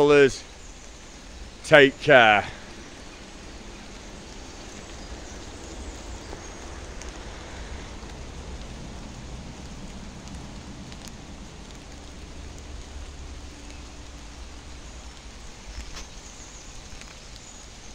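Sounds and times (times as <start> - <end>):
steady rain hiss: 0.0 - 17.9
raindrop ticks: 2.2 - 17.9.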